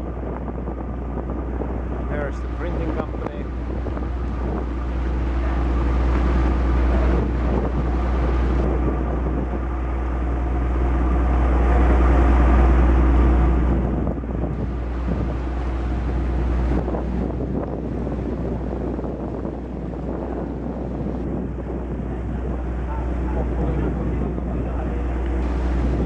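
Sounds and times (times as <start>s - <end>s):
ferry engine drone: 0.0s - 26.0s
wind buffeting microphone: 0.0s - 26.0s.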